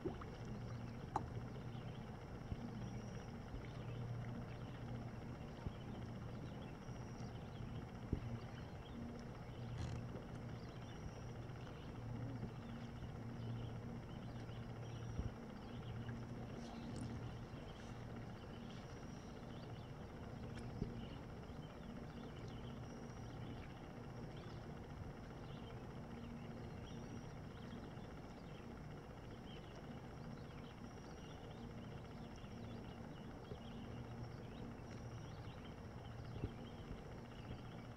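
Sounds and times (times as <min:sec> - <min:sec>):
low hum: 0:00.0 - 0:37.9.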